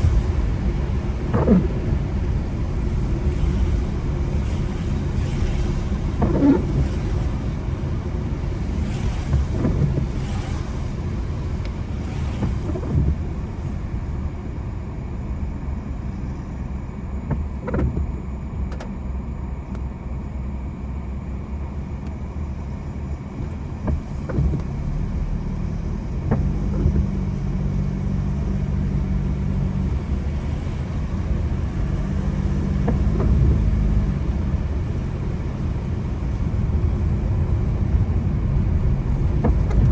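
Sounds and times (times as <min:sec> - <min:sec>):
car engine and road rumble: 0:00.0 - 0:39.9
engine hum: 0:00.0 - 0:39.9.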